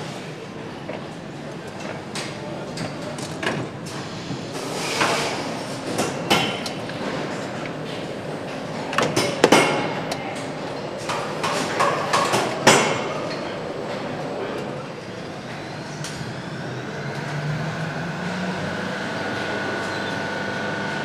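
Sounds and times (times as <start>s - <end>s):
factory hum: 0.0s - 21.0s.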